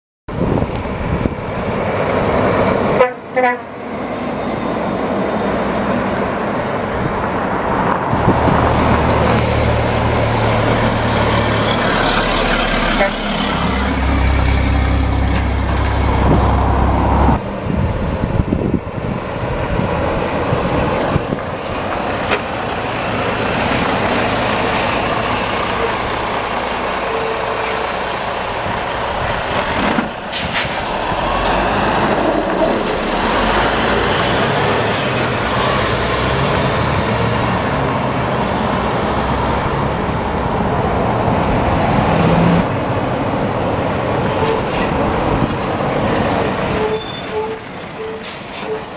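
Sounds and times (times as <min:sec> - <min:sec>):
diesel engine drone: 0:00.3 - 0:48.9
tyre noise on road: 0:00.3 - 0:48.9.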